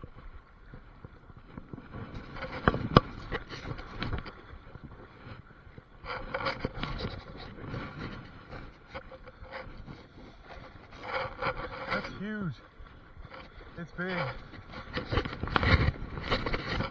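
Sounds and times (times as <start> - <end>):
river water splashing: 0.0 - 16.9.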